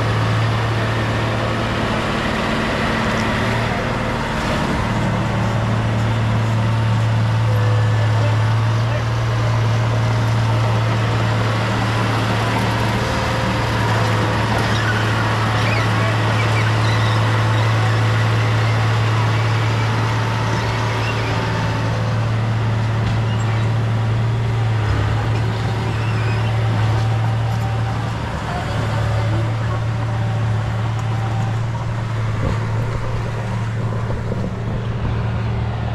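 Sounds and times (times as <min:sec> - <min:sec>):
diesel engine low drone: 0:00.0 - 0:35.9.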